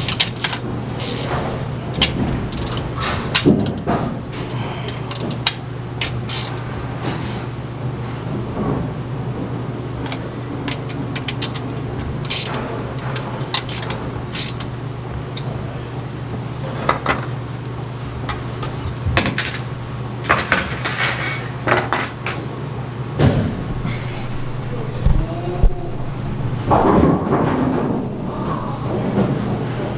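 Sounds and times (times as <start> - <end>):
machinery humming: 0.0 - 16.7, 22.3 - 29.9.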